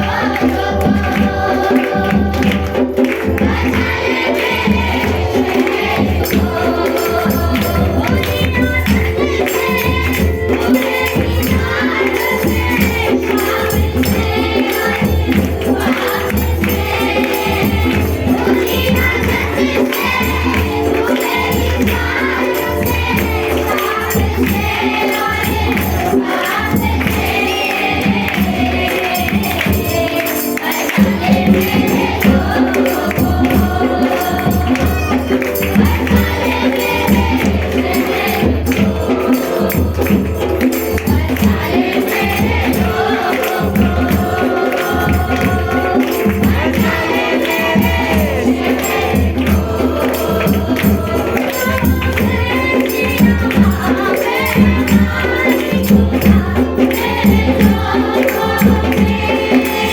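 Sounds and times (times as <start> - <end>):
group singing worship song: 0.0 - 59.9
percussion beat: 0.0 - 59.9
tambourine jingling: 0.0 - 59.9.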